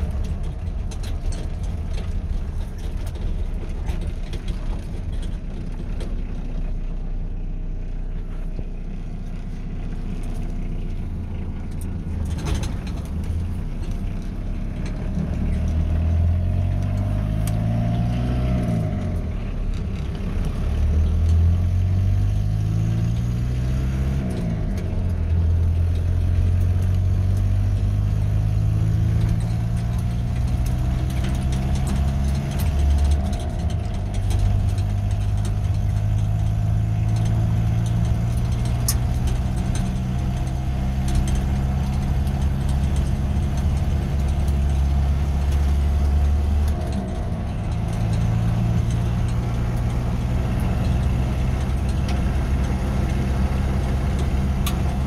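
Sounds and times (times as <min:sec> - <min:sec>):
diesel engine while driving: 0:00.0 - 0:55.0.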